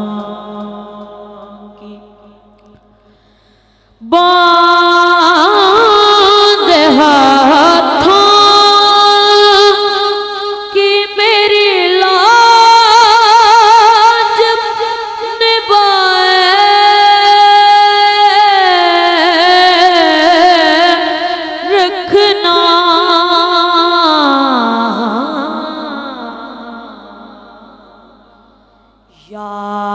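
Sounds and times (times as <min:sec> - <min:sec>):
boy singing into a microphone: 0:00.0 - 0:02.8, 0:04.0 - 0:28.3, 0:29.1 - 0:29.9.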